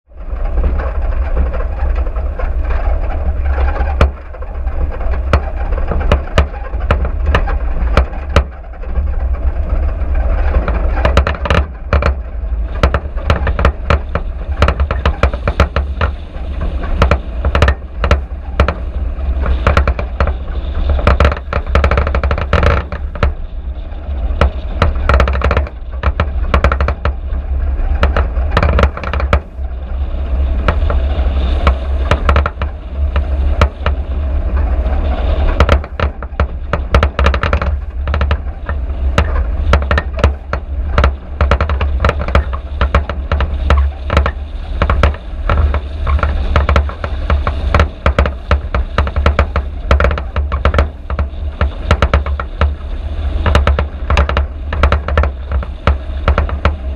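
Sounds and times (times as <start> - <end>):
car rumbling over dirt track: 0.0 - 56.9
knocks and rattles: 0.1 - 56.9.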